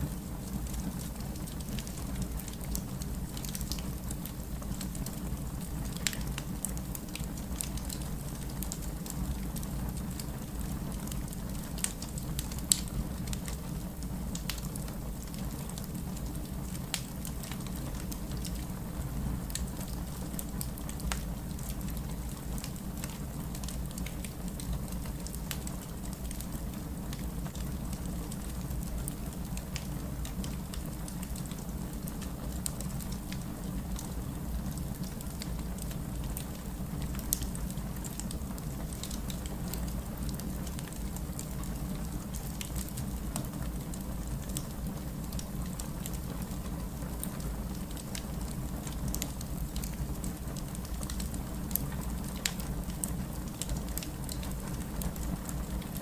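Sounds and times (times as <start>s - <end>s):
low rumble of flames: 0.0s - 56.0s
fire popping and snapping: 0.2s - 56.0s.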